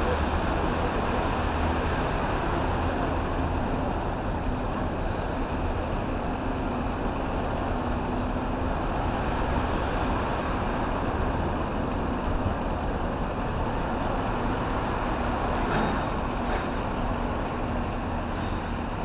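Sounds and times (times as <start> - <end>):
faint engine hum: 0.0 - 19.0
street traffic: 0.0 - 19.0.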